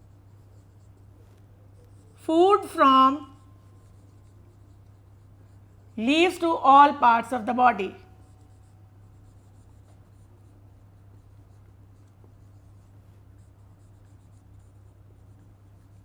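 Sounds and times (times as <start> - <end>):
low electrical hum: 0.0 - 16.0
scratching of writing strokes: 0.0 - 16.0.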